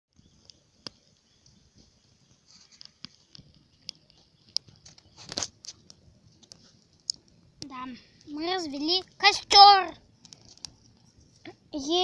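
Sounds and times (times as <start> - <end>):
campfire crackling and popping: 0.2 - 12.0.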